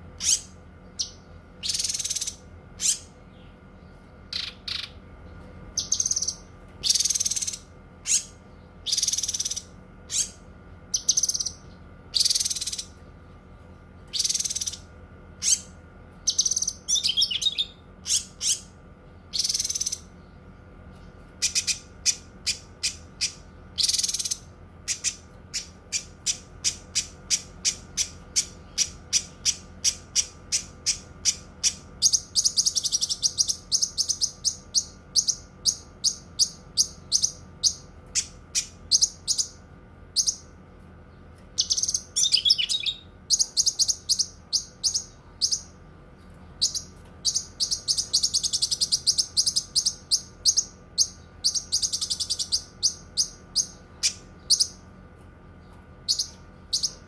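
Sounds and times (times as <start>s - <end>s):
bird singing: 0.0s - 54.9s, 55.6s - 57.0s.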